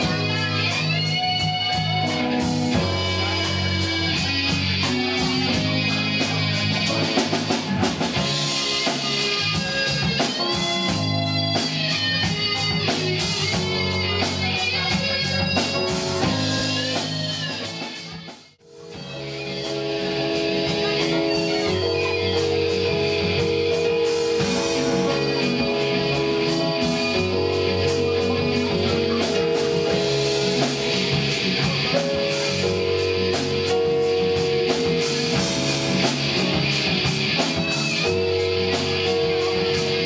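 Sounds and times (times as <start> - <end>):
electric guitar with bent notes: 0.0 - 40.0
live progressive rock band: 0.0 - 40.0.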